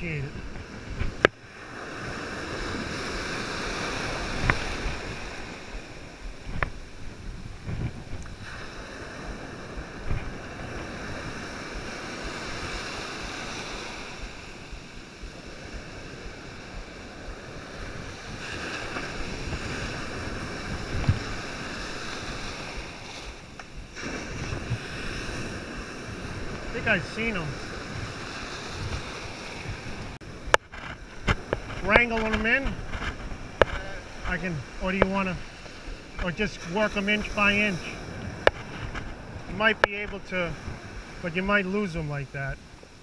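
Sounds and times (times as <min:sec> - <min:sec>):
ocean surf breaking: 0:00.0 - 0:43.0
wind on microphone: 0:00.0 - 0:43.0.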